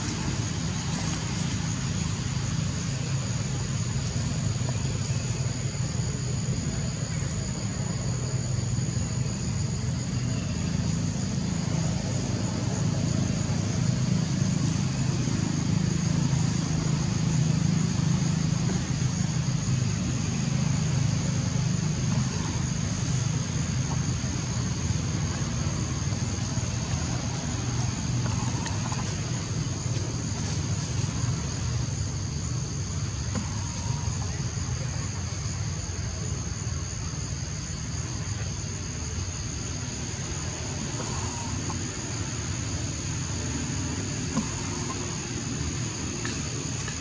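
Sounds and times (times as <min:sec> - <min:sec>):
high-pitched insect drone: 0:00.0 - 0:47.0
low engine-like rumble: 0:00.0 - 0:47.0.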